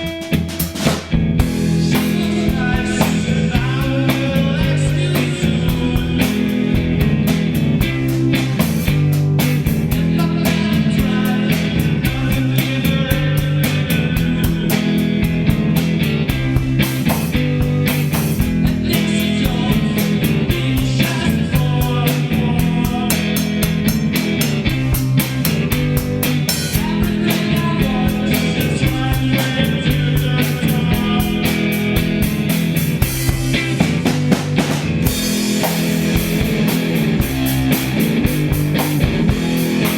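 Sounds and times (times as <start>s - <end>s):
psychedelic rock band: 0.0s - 39.9s.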